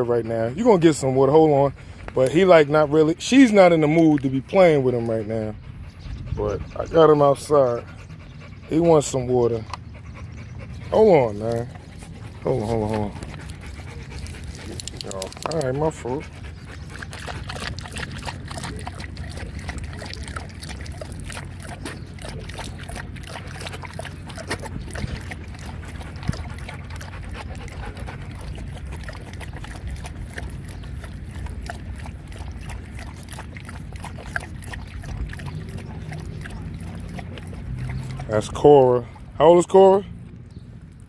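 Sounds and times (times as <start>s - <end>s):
dog lapping water: 0.0s - 41.0s
water dribbling onto ground: 0.6s - 5.4s, 10.8s - 41.0s.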